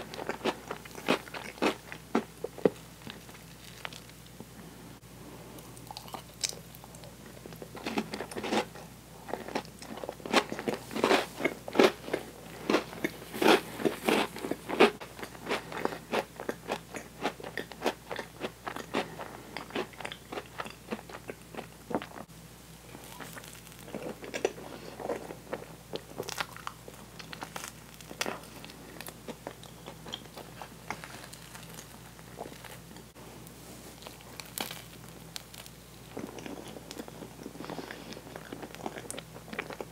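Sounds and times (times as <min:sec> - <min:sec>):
chewing sticky marshmallow: 0:00.0 - 0:04.3, 0:05.7 - 0:22.3, 0:22.9 - 0:32.9, 0:33.5 - 0:39.9.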